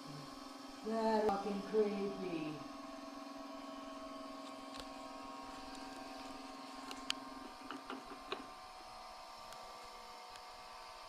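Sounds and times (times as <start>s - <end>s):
electric grinder motor humming: 0.0s - 11.0s.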